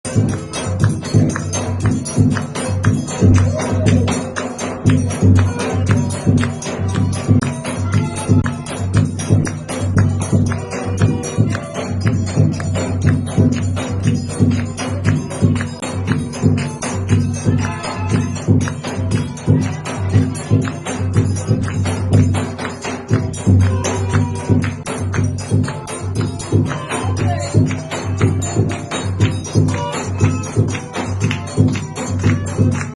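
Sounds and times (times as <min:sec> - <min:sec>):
folk dance music with percussive beat: 0:00.0 - 0:32.9.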